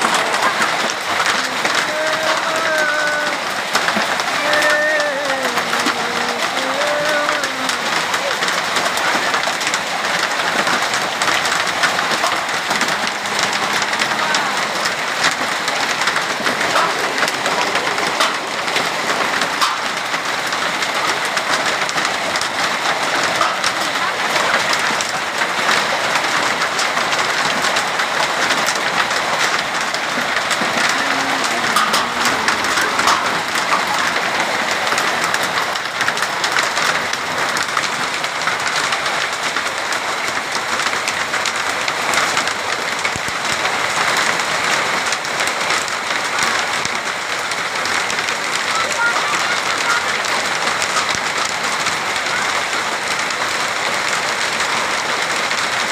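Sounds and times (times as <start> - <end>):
hailstones ticking: 0.0 - 55.9
heavy rain hissing: 0.0 - 55.9.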